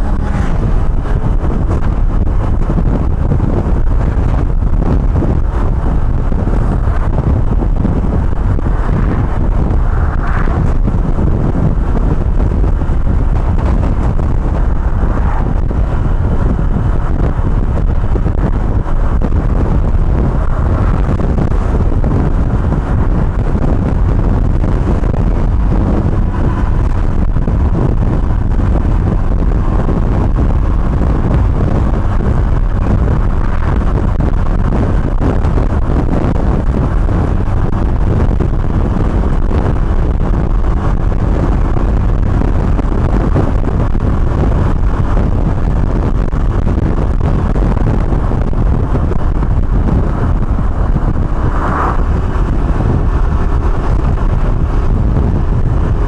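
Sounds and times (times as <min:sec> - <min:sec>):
moped engine running: 0:00.0 - 0:56.0
wind rumbling on microphone: 0:00.0 - 0:56.0.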